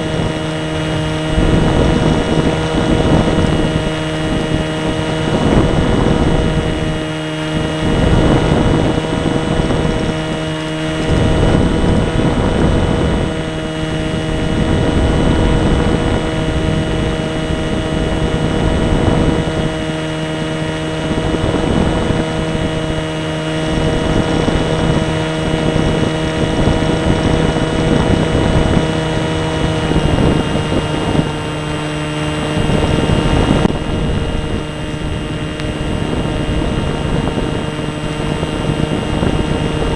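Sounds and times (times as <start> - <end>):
model plane motor and propeller: 0.0 - 39.9
wind buffeting microphone: 0.0 - 39.9.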